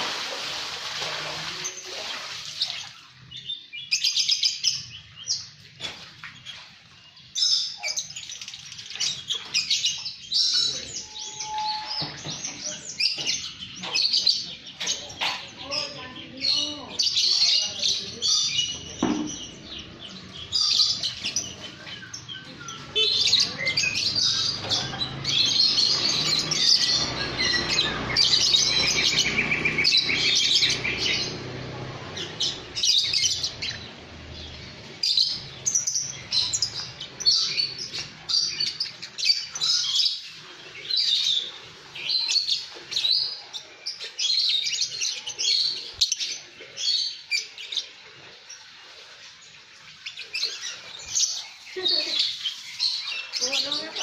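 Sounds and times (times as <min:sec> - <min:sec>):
lovebirds chattering: 0:01.3 - 0:54.0.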